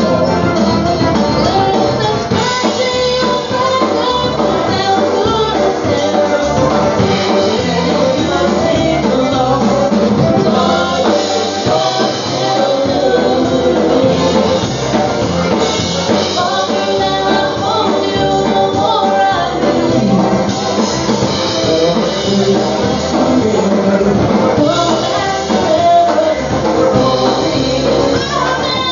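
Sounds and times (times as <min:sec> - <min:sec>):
accordions: 0:00.0 - 0:28.9
people singing: 0:00.0 - 0:28.9
polka band playing: 0:00.0 - 0:28.9.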